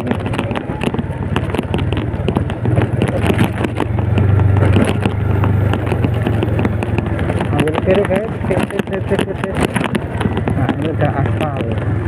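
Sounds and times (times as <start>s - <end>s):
knocks and rattles from bumps: 0.0s - 12.0s
motorcycle engine running: 0.0s - 12.0s.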